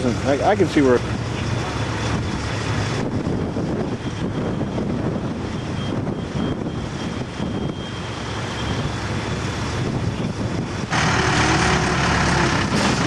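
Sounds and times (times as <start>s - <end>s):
heavy machinery engine running: 0.0s - 13.0s
wind buffeting microphone: 0.0s - 13.0s.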